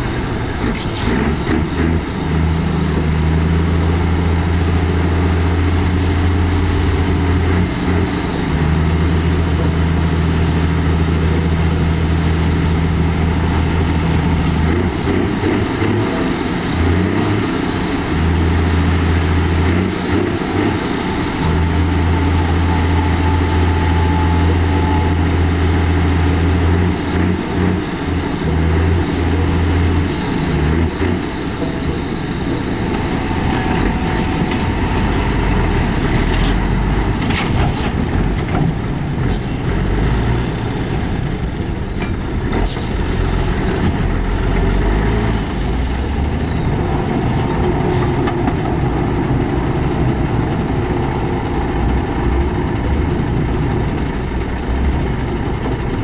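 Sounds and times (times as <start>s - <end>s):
heavy diesel engine drone: 0.0s - 56.0s.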